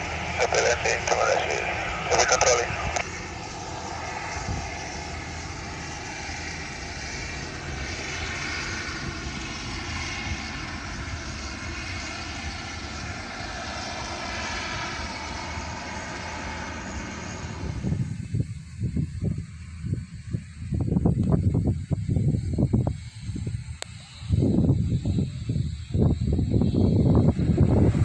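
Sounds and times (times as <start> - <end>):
turboprop engine drone: 0.0 - 28.0.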